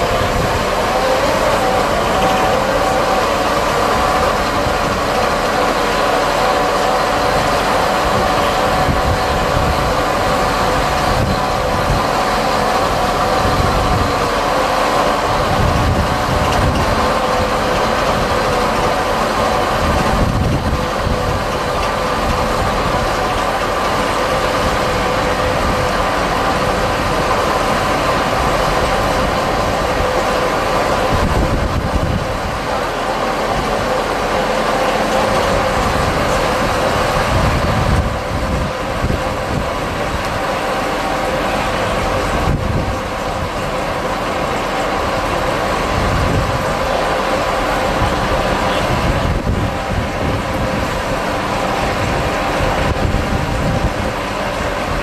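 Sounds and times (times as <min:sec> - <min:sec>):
tractor and wagon mechanical drone: 0:00.0 - 0:55.0.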